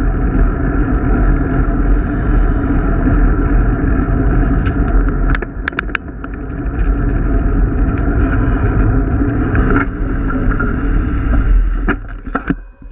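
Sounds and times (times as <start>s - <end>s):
tyre and road rumble: 0.0s - 12.9s
wind buffeting microphone: 0.0s - 12.9s.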